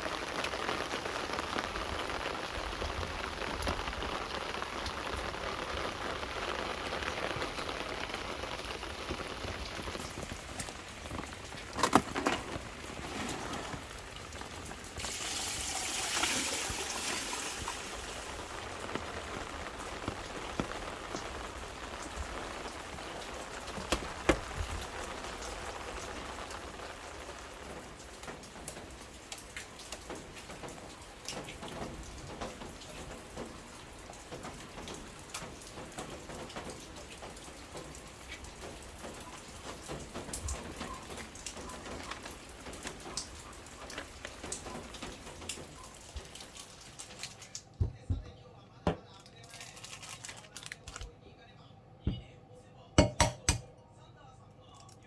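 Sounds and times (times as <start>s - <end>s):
rain falling steadily: 0.0s - 52.0s, 52.7s - 55.0s.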